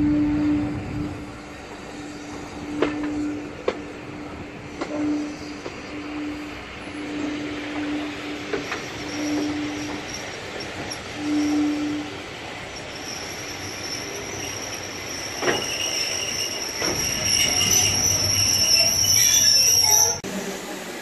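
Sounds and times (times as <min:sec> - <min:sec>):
train wheels squealing on rails: 0:00.0 - 0:20.2.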